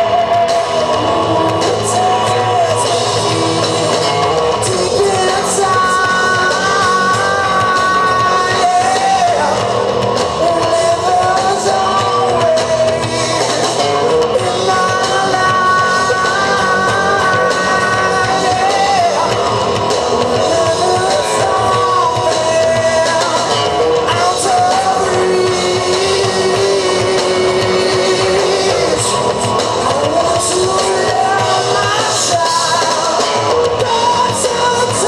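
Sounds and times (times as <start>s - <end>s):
drums: 0.0s - 35.0s
electric guitars: 0.0s - 35.0s
person singing long notes: 0.0s - 35.0s.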